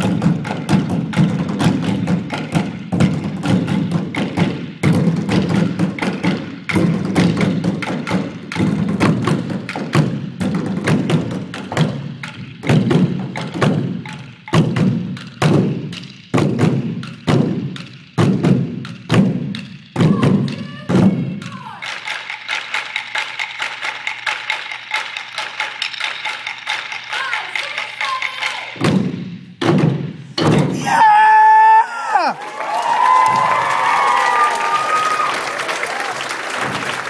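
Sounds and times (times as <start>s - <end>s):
drumming on plastic bins: 0.0s - 31.0s.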